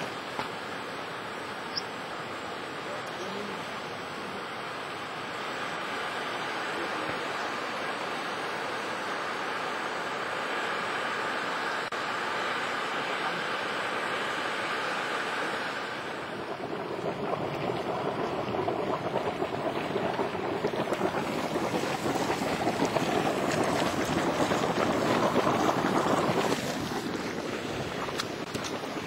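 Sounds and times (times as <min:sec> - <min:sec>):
boiling spring churning and splashing: 0:00.0 - 0:29.0
steam rushing from vent: 0:00.0 - 0:29.0.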